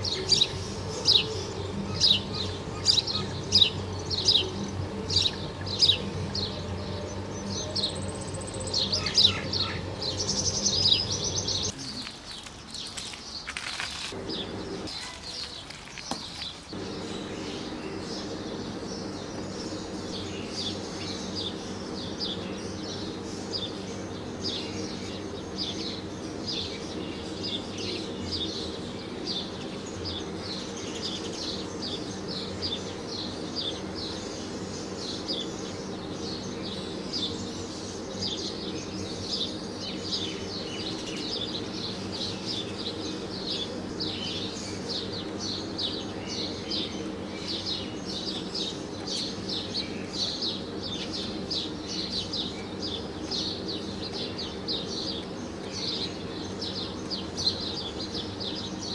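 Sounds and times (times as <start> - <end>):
small birds chirping: 0.0 - 58.9
steady low hum: 0.0 - 58.9.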